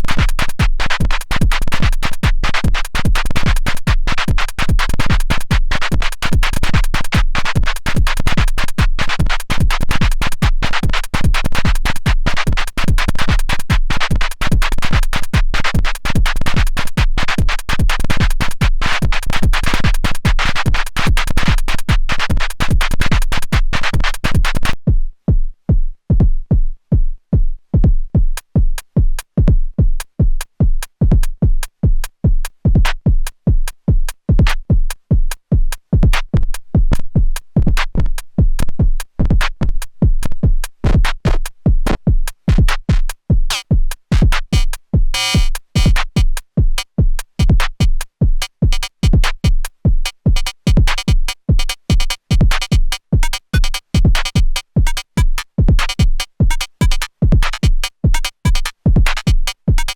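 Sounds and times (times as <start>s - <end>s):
electronic drum pattern: 0.0s - 24.8s, 36.0s - 59.9s.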